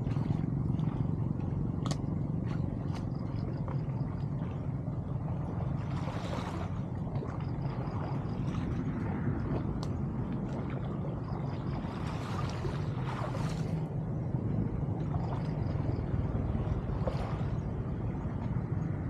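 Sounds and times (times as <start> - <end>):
low steady rumble: 0.0 - 19.0
water splashing and sloshing: 0.0 - 19.0.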